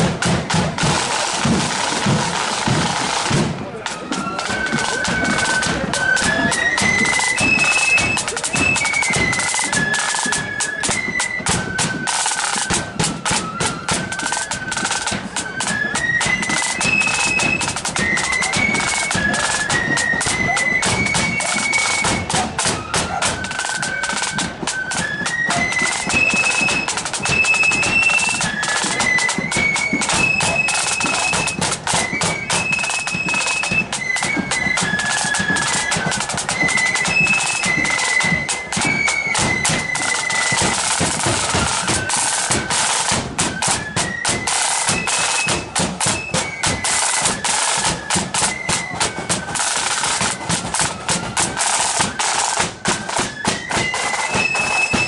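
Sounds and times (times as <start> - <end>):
snare drum rolls: 0.0 - 55.0
high-pitched flutes playing: 2.1 - 55.0.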